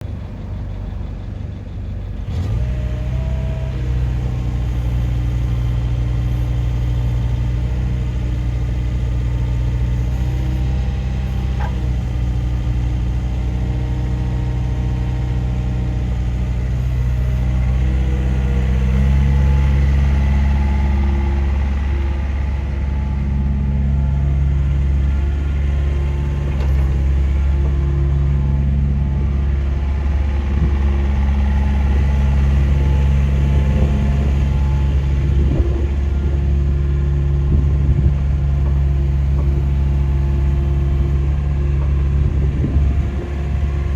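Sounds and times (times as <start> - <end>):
diesel engine starting and idling: 0.0 - 43.9.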